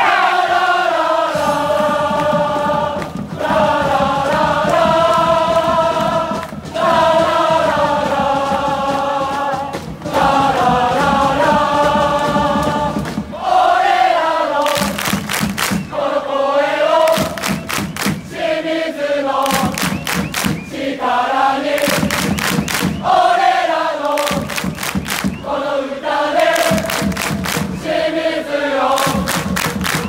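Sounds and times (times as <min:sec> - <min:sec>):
crowd chanting in unison: 0:00.0 - 0:30.0
rhythmic clapping: 0:00.1 - 0:16.2, 0:16.8 - 0:18.6, 0:19.3 - 0:30.0.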